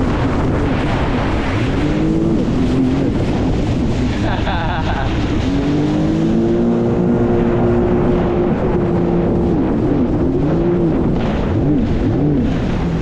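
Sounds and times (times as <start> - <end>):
jet ski engine running: 0.0 - 13.0
steady rushing noise: 0.0 - 13.0.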